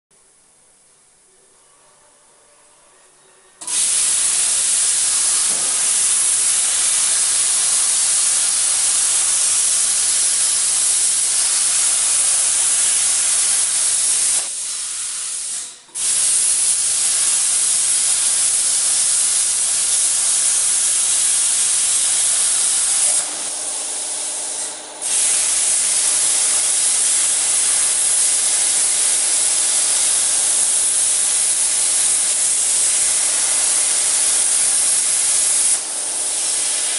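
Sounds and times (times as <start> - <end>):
plasma torch hissing: 3.6 - 36.9.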